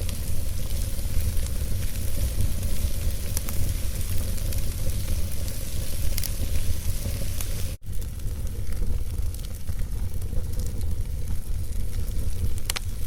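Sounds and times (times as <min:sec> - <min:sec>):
logs burning in a fireplace: 0:00.0 - 0:13.0
sharp fire crackles: 0:00.0 - 0:13.0.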